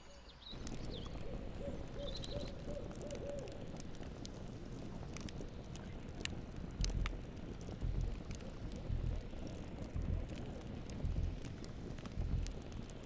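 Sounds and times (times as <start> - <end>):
campfire crackling and popping: 0.5 - 13.0.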